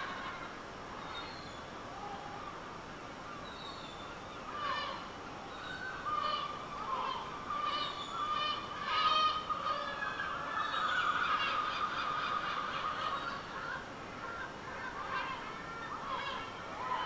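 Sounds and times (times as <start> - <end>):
birds calling: 3.3 - 17.0.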